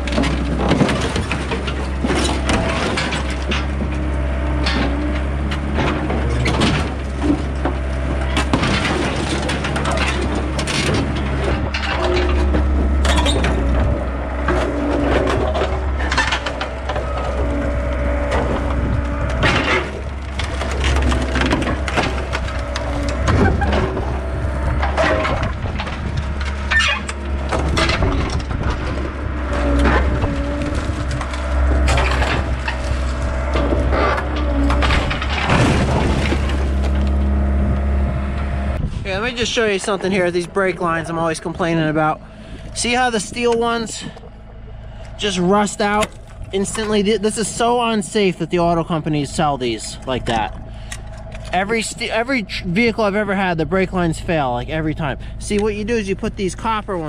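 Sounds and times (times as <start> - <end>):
excavator diesel engine running: 0.0 - 57.0
metal crunching and creaking: 0.0 - 57.0.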